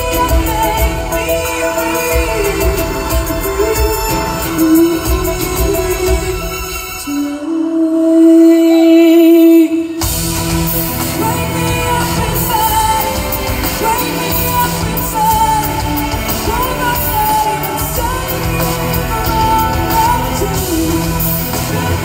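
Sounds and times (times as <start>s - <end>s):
rock band drums and bass: 0.0s - 6.8s, 10.0s - 22.0s
orchestra backing: 0.0s - 7.7s, 10.0s - 22.0s
woman singing: 0.0s - 22.0s.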